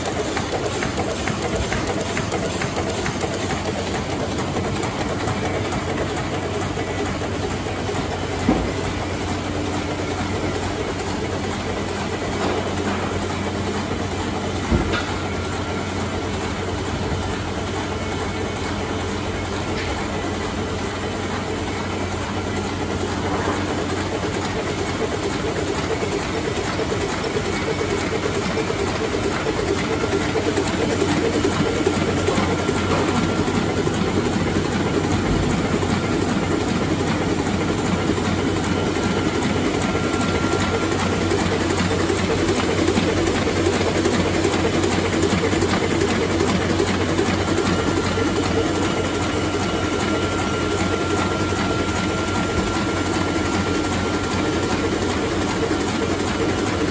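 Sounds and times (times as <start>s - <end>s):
printing press running: 0.0s - 56.9s.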